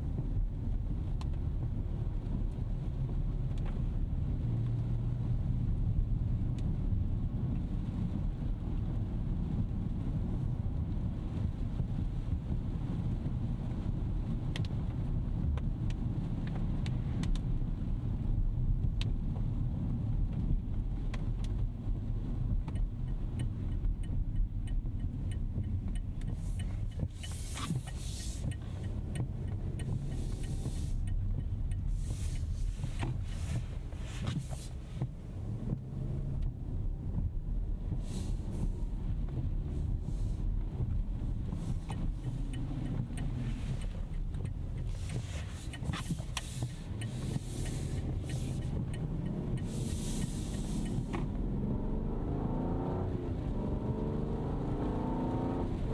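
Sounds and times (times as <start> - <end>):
car road noise rumble: 0.0 - 55.9
light ticks: 0.8 - 4.8, 6.5 - 6.8, 7.4 - 18.2, 18.8 - 51.5.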